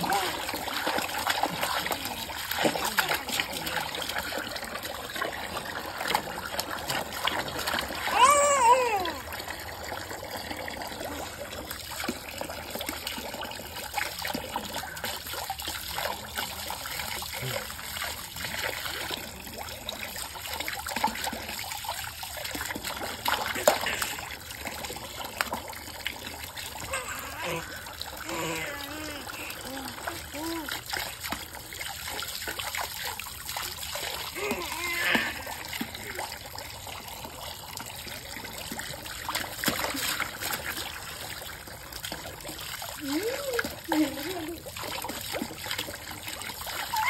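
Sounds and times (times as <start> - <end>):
water pouring and splashing: 0.0 - 47.0.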